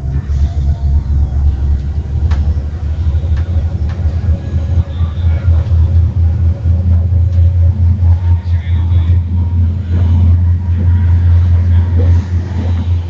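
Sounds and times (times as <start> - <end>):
train rumbling inside carriage: 0.0 - 13.0.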